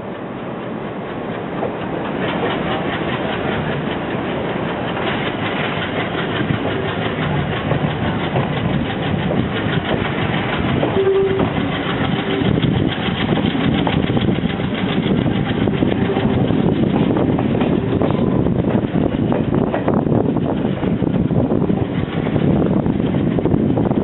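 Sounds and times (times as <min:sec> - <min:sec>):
diesel train rattling on rails: 0:00.0 - 0:24.0.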